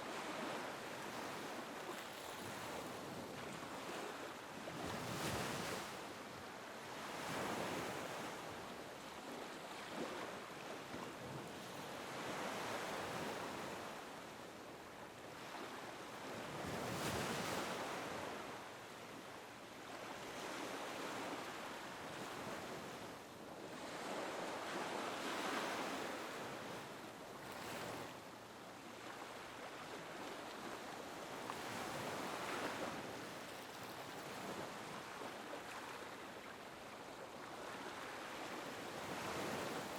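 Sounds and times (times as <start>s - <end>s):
small waves lapping on a beach: 0.0s - 39.9s.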